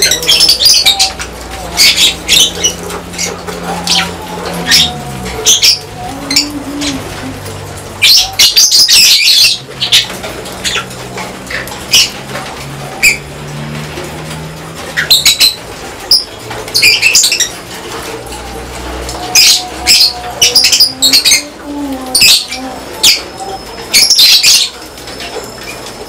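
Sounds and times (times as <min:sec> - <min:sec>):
lovebirds chirping: 0:00.0 - 0:13.6, 0:14.2 - 0:26.0.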